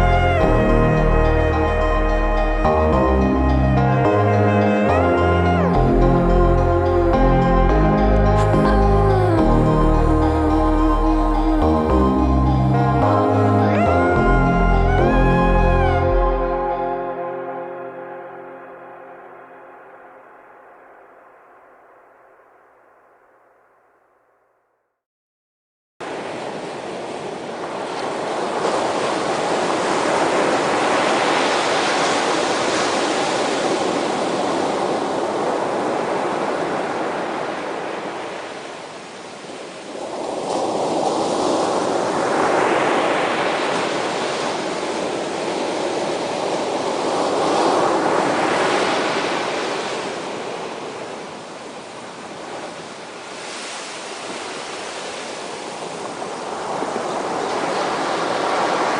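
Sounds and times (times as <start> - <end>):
sea waves washing ashore: 0.0 - 22.0, 26.0 - 58.9.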